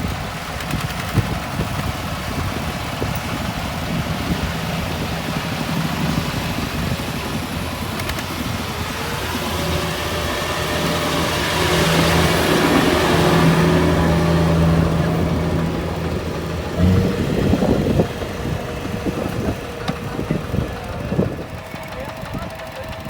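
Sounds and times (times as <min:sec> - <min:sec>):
diesel engine running hard: 0:00.0 - 0:23.0
engine knocks and rattles: 0:00.0 - 0:23.0.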